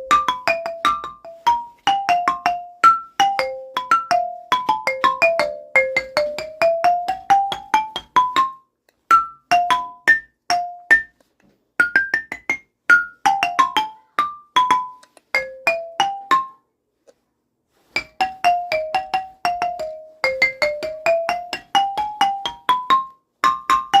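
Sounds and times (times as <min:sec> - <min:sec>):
mallet percussion melody: 0:00.0 - 0:11.2, 0:11.8 - 0:16.6, 0:18.0 - 0:24.0.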